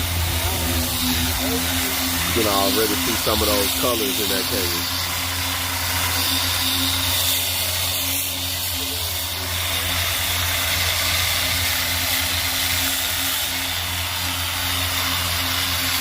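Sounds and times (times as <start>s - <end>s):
machine humming with hiss: 0.0s - 16.0s.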